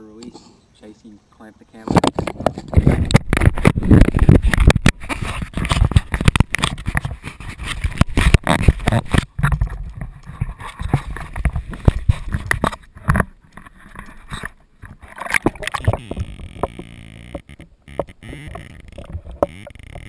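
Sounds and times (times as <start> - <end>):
camera handling knocks and rubs: 1.9 - 19.5.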